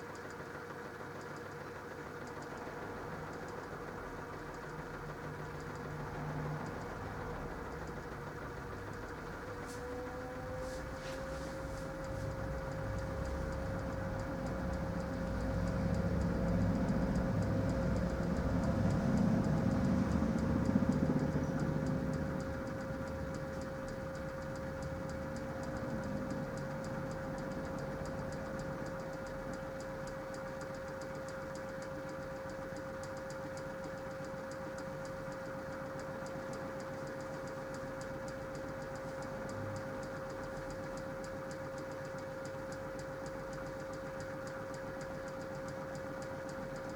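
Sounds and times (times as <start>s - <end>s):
light rapid ticking: 0.0s - 10.6s, 11.6s - 46.9s
steady machine hum: 0.0s - 46.9s.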